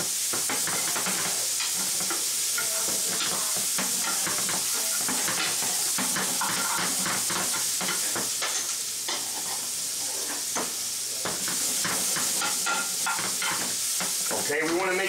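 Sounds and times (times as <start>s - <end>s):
vegetables sizzling in a frying pan: 0.0s - 15.0s
tongs clicking and scraping on pan: 0.2s - 15.0s.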